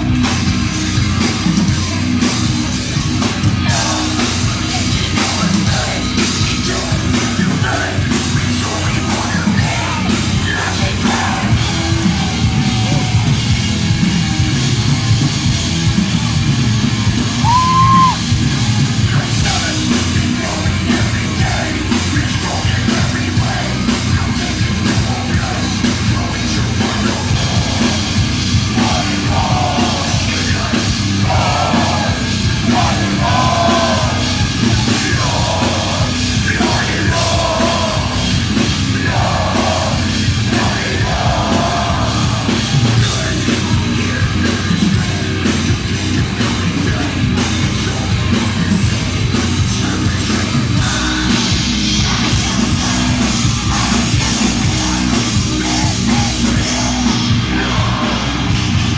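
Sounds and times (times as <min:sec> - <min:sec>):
heavy metal band playing live: 0:00.0 - 0:58.9
yelled vocals: 0:00.0 - 0:58.9.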